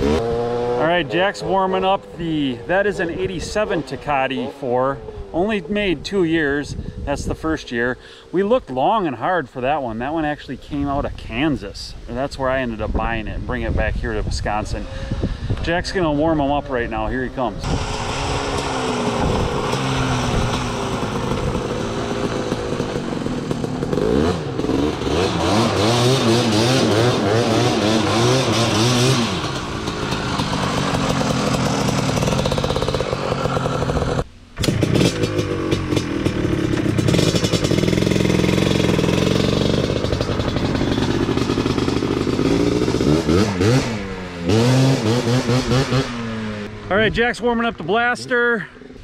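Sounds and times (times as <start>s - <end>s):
two-stroke engine revving: 0.0s - 6.5s, 13.7s - 47.2s
quad engine revving sharply: 0.0s - 7.5s, 13.6s - 47.2s.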